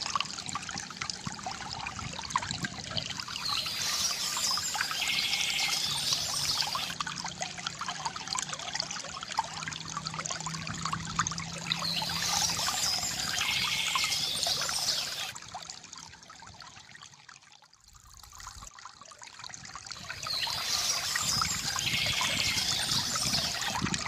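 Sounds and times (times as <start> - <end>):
water trickling from fountain spout: 0.0 - 24.0.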